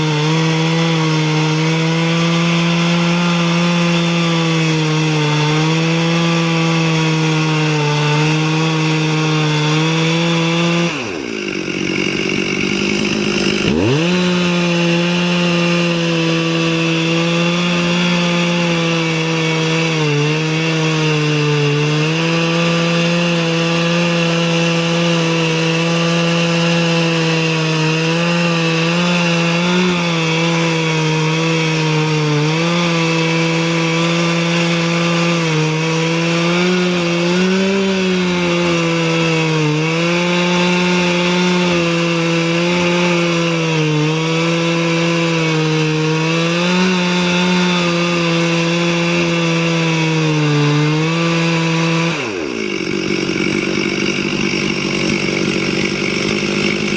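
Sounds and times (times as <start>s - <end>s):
chainsaw cutting log: 0.0s - 56.9s.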